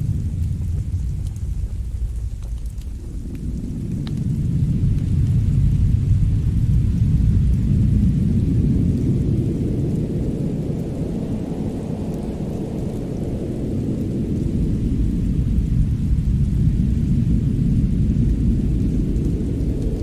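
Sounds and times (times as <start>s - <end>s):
faint fire crackles: 0.0s - 20.0s
fireplace fire rumbling: 0.0s - 20.0s.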